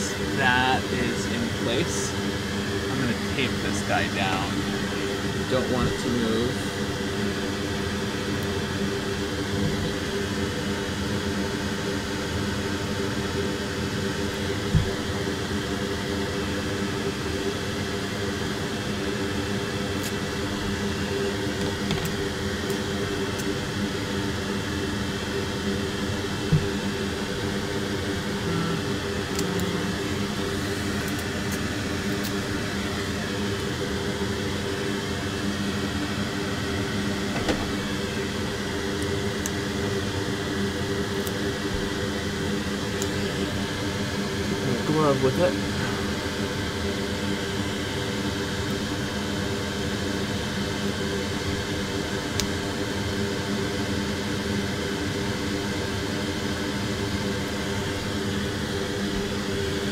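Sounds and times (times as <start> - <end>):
fan-like machine whirring: 0.0 - 59.9.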